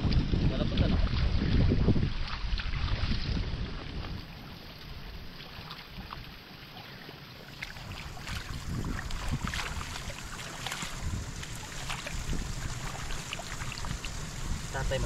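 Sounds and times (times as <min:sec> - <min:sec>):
wind buffeting microphone: 0:00.0 - 0:06.3, 0:07.6 - 0:15.0
splashes of pulling seedlings: 0:00.7 - 0:14.8.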